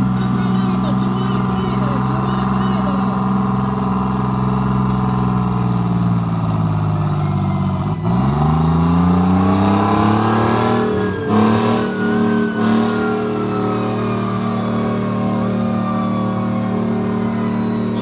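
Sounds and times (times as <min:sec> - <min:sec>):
tractor engine revving: 0:00.0 - 0:18.0.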